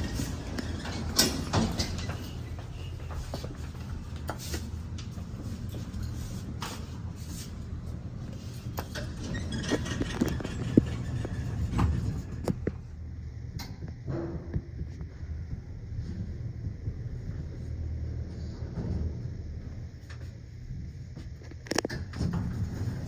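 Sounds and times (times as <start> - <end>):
elevator motor hum: 0.0 - 23.0.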